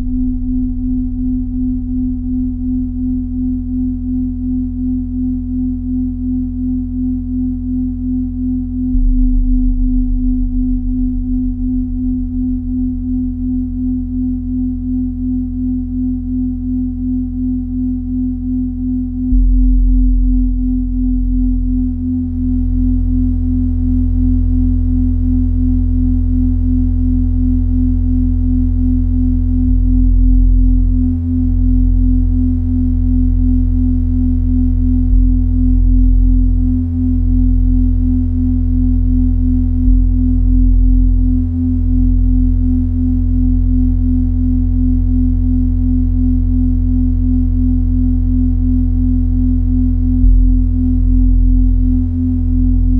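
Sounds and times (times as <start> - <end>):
deep bass drone: 0.0 - 52.9
pulsing pure tone: 0.0 - 52.9.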